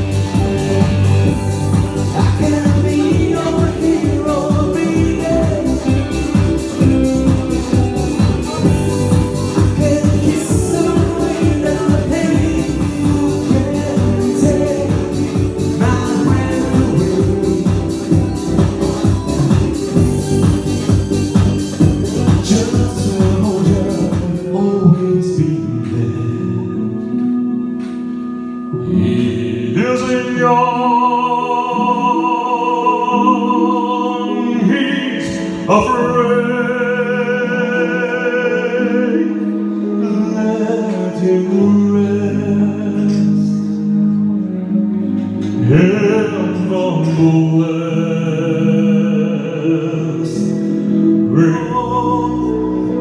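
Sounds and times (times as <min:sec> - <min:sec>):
man singing into microphone: 0:00.0 - 0:20.6, 0:21.6 - 0:27.8, 0:28.7 - 0:44.6, 0:45.5 - 0:53.0
backing music: 0:00.0 - 0:53.0.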